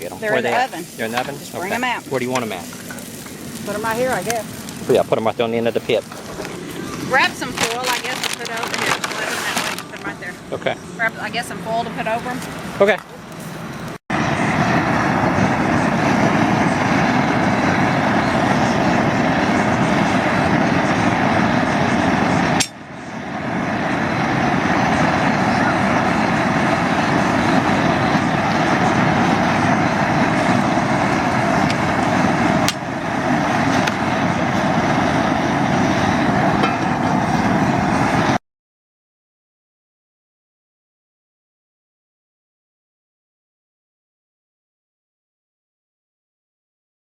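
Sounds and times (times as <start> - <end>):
propane jet burner roaring: 0.0 - 38.4.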